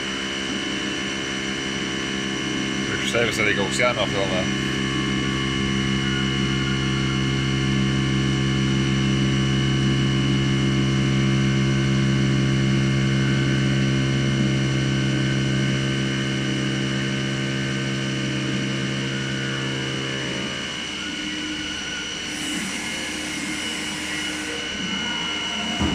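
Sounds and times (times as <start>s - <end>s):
machine hum: 0.0s - 25.9s
rough noisy machine sound: 0.0s - 25.9s.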